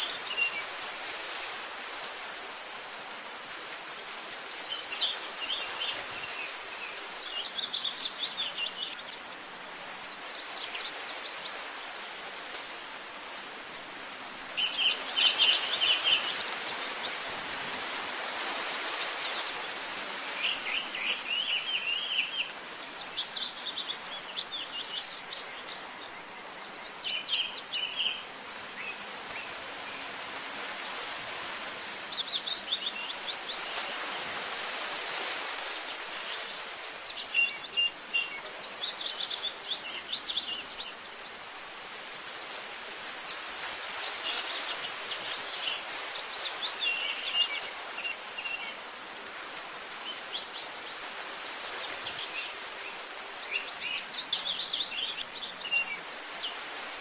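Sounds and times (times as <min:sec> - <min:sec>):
steady outdoor hiss: 0:00.0 - 0:57.0
small birds chirping: 0:03.1 - 0:11.7, 0:14.4 - 0:30.1, 0:30.8 - 0:34.0, 0:35.5 - 0:48.9, 0:49.9 - 0:56.7.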